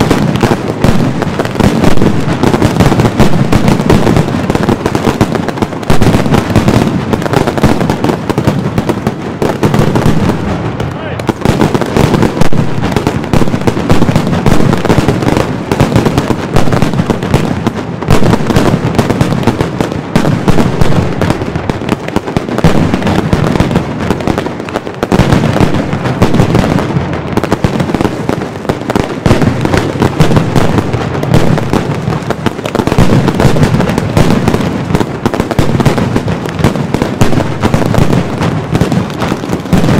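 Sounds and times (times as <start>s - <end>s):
firecracker barrage: 0.0s - 39.9s.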